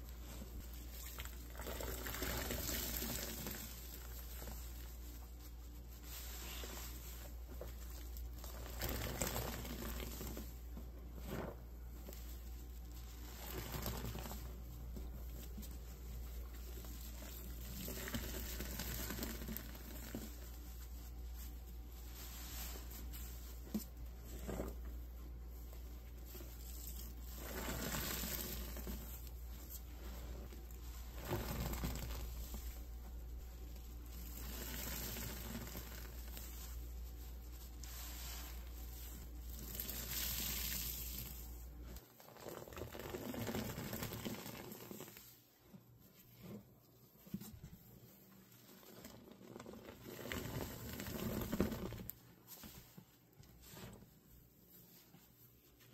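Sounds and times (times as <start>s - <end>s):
wet sponge squelching: 0.0s - 55.9s.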